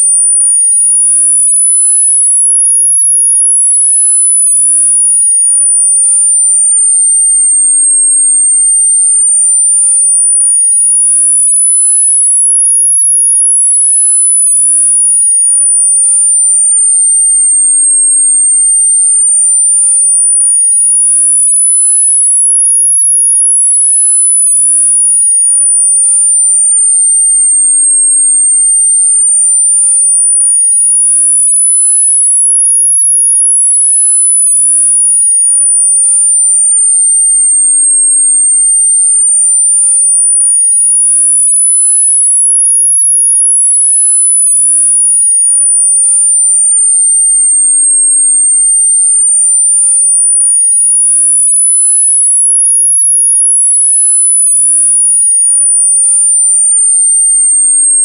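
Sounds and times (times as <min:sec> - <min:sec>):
high-pitched sine sweep: 0:00.0 - 0:58.0.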